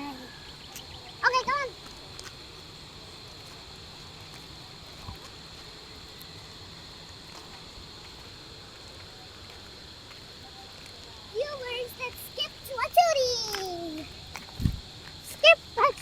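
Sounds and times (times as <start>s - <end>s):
low rumbling hiss: 0.0s - 15.9s
insects droning: 0.0s - 16.0s.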